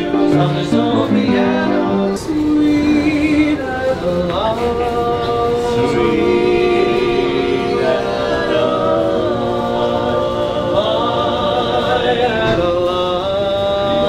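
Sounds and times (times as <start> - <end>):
barbershop quartet singing: 0.0 - 14.0.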